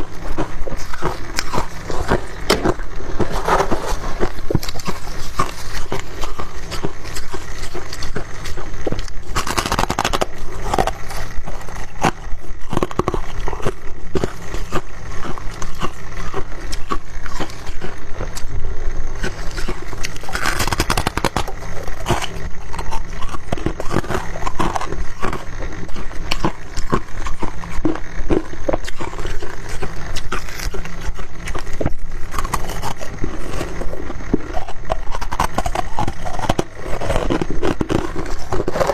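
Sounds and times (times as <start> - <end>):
frost crunching in mouth: 0.0 - 38.9.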